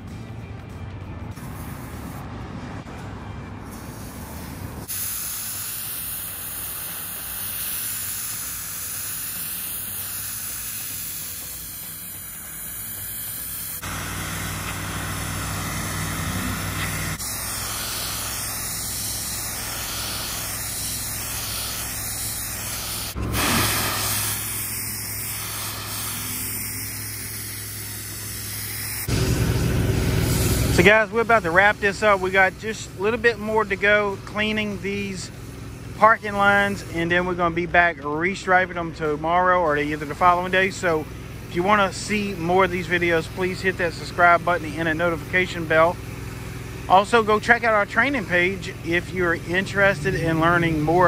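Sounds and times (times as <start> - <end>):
pressure washer spraying concrete: 1.3 - 2.2, 3.7 - 37.5, 38.3 - 51.0.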